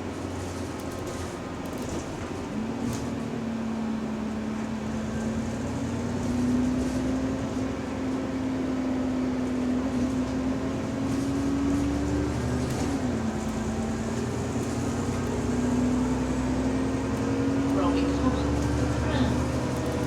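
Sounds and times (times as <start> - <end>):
bus engine drone and road noise: 0.0 - 20.0.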